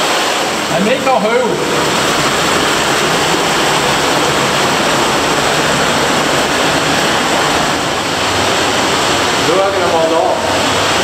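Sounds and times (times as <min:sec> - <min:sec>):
cave stream rushing over rock: 0:00.0 - 0:11.0.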